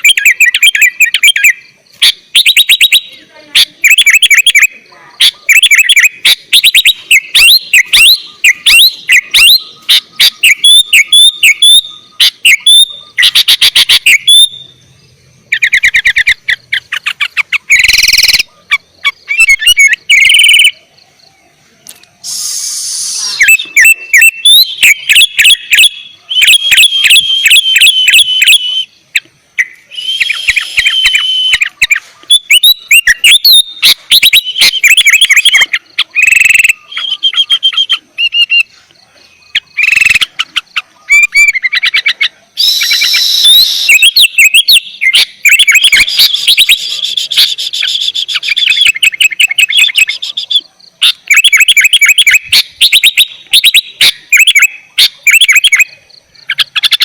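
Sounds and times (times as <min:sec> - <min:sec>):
bird chirping and whistling: 0:00.0 - 0:14.9, 0:15.5 - 0:20.8, 0:22.2 - 0:38.8, 0:39.4 - 0:40.4, 0:41.1 - 0:57.0.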